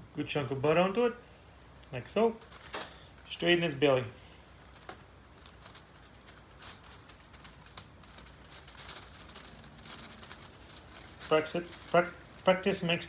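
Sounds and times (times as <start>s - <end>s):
aluminium foil crinkling: 2.3s - 13.0s.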